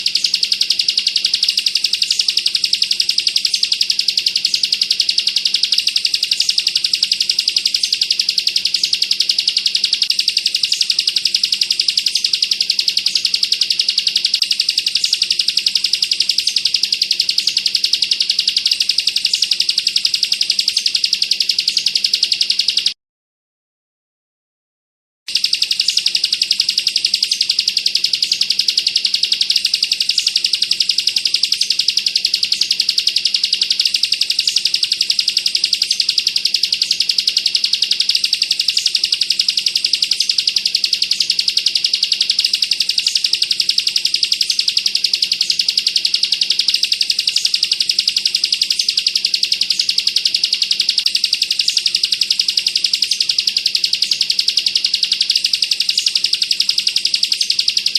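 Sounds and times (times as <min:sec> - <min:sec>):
bird trilling: 0:00.0 - 0:22.9, 0:25.3 - 0:57.9.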